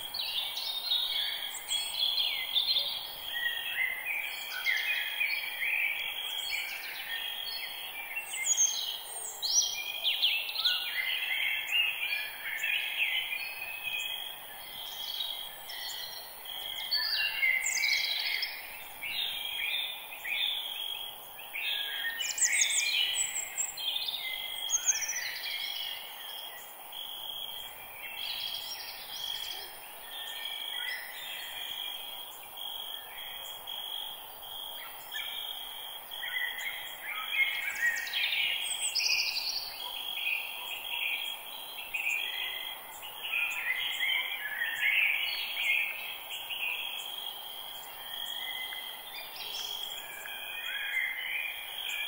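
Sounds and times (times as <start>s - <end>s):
faint steady hiss: 0.0s - 52.0s.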